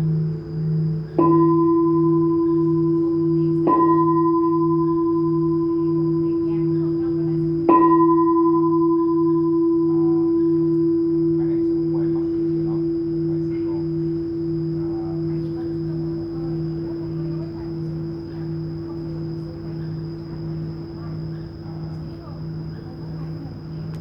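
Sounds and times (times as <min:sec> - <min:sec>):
low throbbing hum: 0:00.0 - 0:24.0
temple bell ringing: 0:00.0 - 0:24.0.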